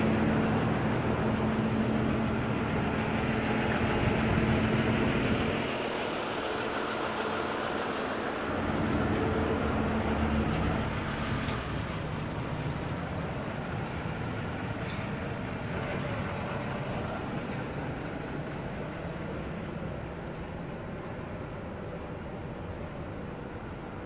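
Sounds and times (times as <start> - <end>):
urban background noise: 0.0 - 24.0.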